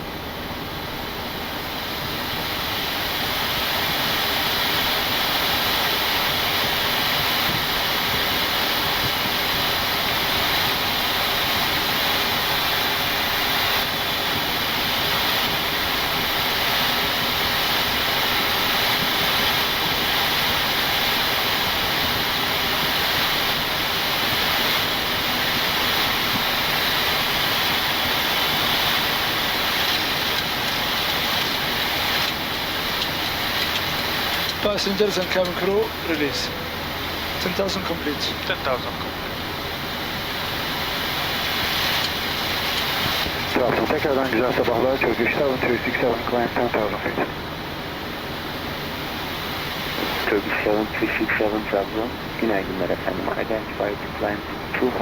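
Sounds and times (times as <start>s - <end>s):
rushing airflow in cockpit: 0.0s - 55.0s.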